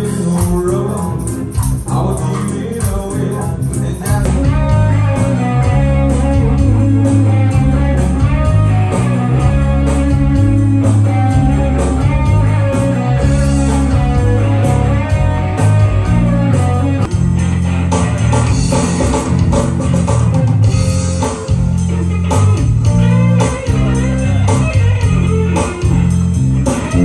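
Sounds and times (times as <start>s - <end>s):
bass guitar: 0.0s - 27.0s
electric guitars: 0.0s - 27.0s
steady drum beat: 0.0s - 27.0s.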